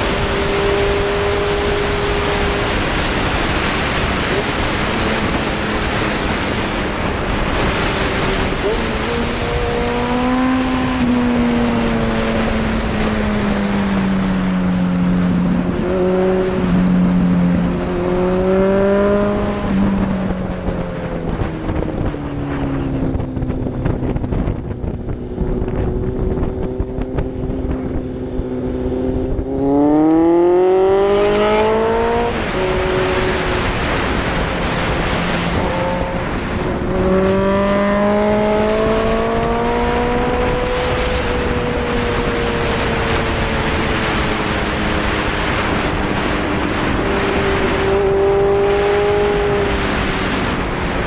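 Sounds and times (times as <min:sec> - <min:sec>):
motorcycle engine revving: 0:00.0 - 0:51.0
wind rushing over microphone: 0:00.0 - 0:51.0.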